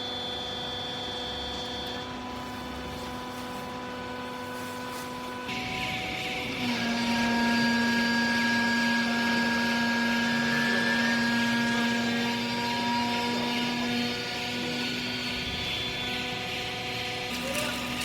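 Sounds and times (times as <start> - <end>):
hydraulic motor and pump whine: 0.0 - 18.0.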